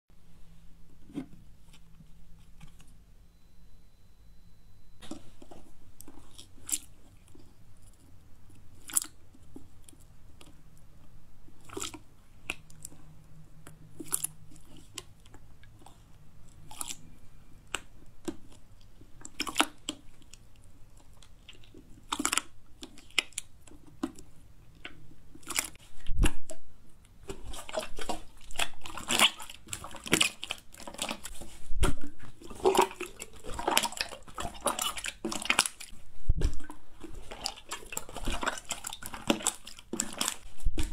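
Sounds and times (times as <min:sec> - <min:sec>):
slime clicking and squelching: 0:05.1 - 0:10.9, 0:11.5 - 0:40.9.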